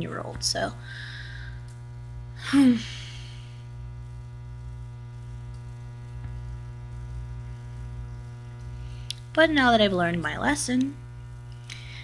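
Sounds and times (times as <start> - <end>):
buzzy electrical mains hum: 0.0 - 12.0.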